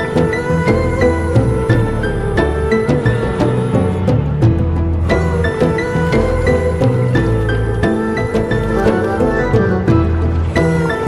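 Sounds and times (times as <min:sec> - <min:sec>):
instrumental melody: 0:00.0 - 0:11.0.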